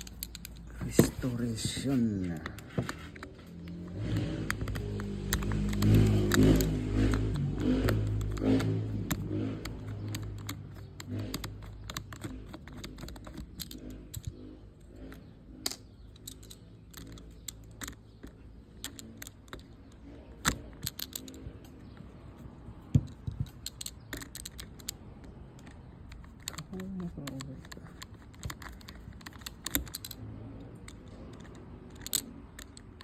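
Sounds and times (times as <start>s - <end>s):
small metal parts clicking and clinking: 0.0s - 33.0s.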